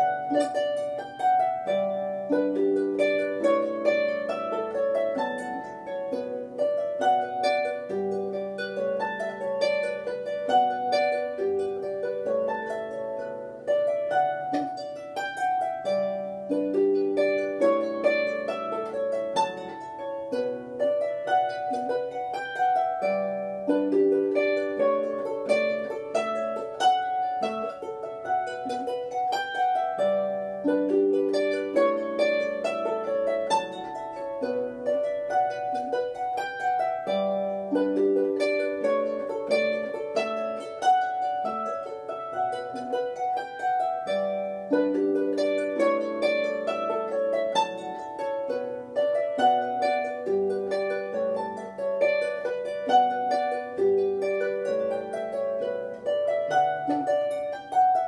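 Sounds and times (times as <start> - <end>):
harp plucked melody: 0.0 - 58.0.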